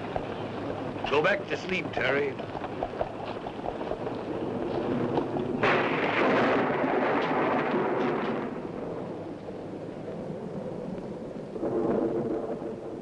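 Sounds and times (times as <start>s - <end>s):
storm noise: 0.0s - 13.0s
thunder crack and rumble: 0.0s - 13.0s.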